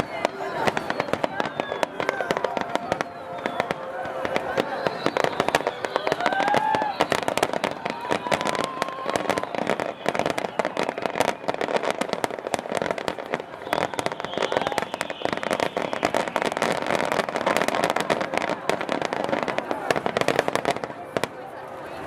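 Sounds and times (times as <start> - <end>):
faint firework whistle: 0.0 - 19.5
fireworks crackling pops: 0.0 - 21.6.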